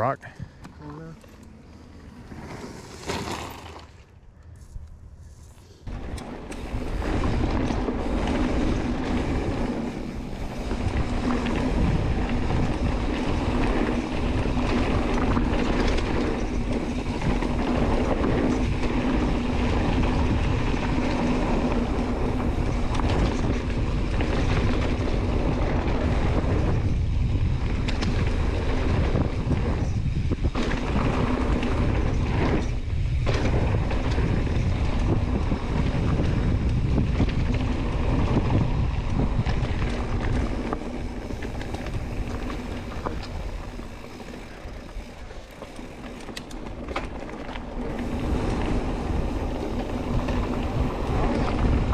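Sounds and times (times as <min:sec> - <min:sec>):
bike tyre roar: 0:00.0 - 0:04.2, 0:05.2 - 0:51.9
bike clattering over rough ground: 0:02.1 - 0:04.2, 0:05.9 - 0:51.9
wind rush on microphone: 0:04.6 - 0:51.9.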